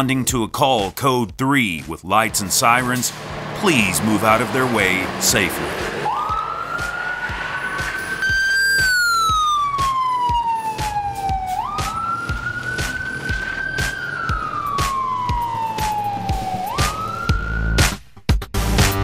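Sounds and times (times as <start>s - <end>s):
fire engine siren wailing: 2.2s - 17.8s.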